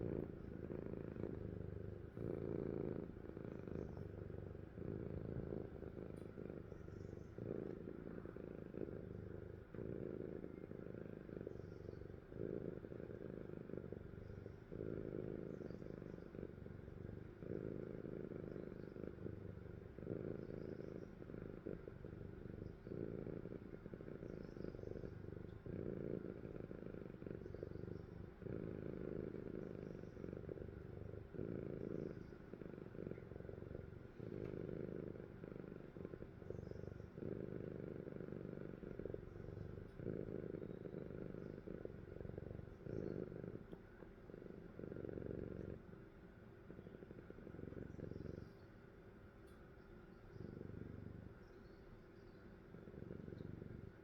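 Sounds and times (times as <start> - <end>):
cat snoring: 0.0 - 48.6, 49.4 - 54.0.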